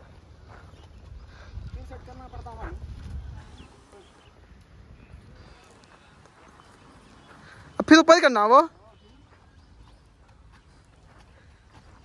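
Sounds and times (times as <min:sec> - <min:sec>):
horse hooves walking: 0:00.0 - 0:12.0.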